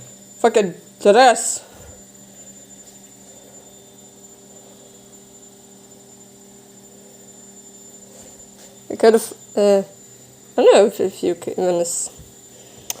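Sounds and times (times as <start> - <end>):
laundry machine humming: 0.0 - 13.0.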